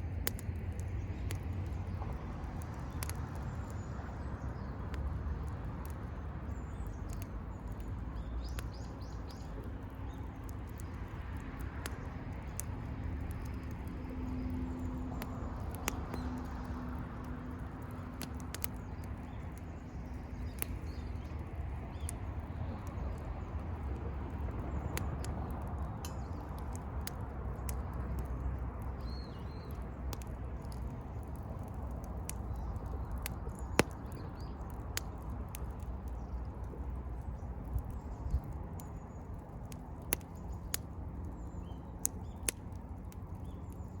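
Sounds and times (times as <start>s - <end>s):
bonfire crackling and popping: 0.0s - 44.0s.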